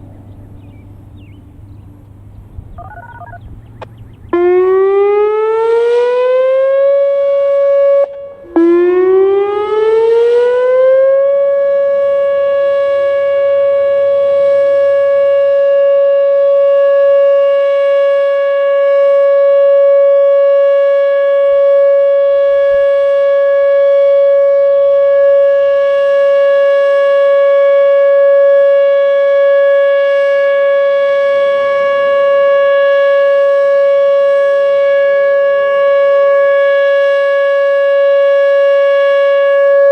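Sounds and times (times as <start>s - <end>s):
outdoor warning siren: 2.7s - 39.9s.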